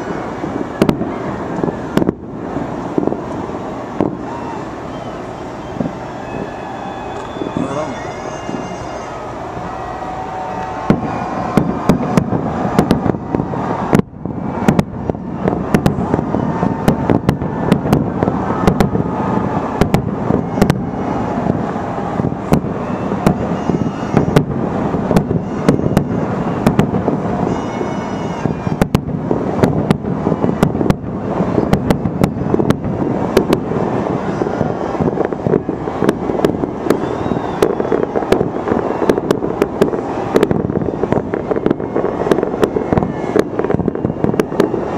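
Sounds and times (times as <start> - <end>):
continuous rumble: 0.0 - 44.9
fireworks bangs and cracks: 0.0 - 44.9.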